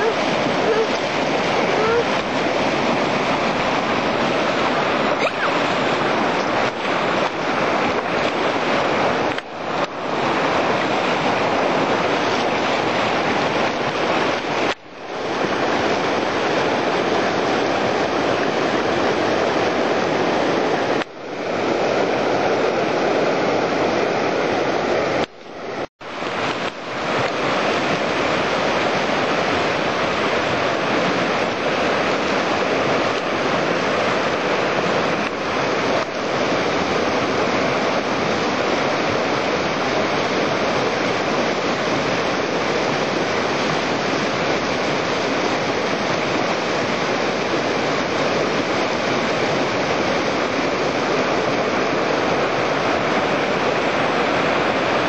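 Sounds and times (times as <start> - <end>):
water around a kayak: 0.0 - 55.0
wind rushing on microphone: 0.0 - 55.0.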